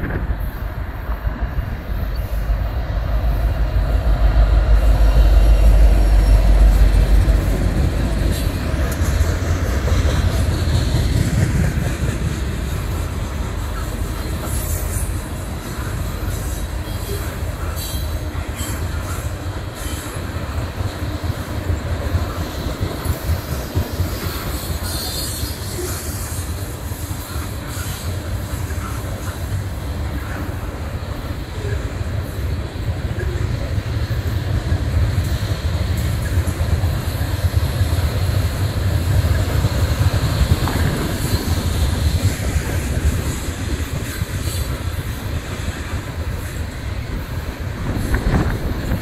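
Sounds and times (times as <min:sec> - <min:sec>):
diesel locomotives rumbling past: 0:00.0 - 0:49.0.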